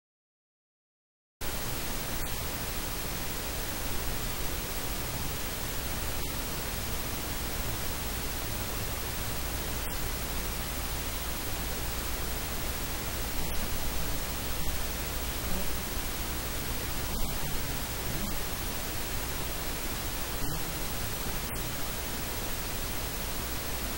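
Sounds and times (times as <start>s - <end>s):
static hiss: 1.4s - 23.9s.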